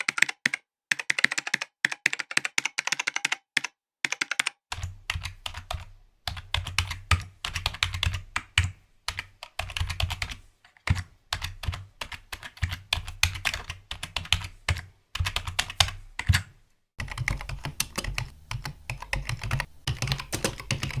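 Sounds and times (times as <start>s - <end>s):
typing on computer keyboard: 0.0s - 21.0s.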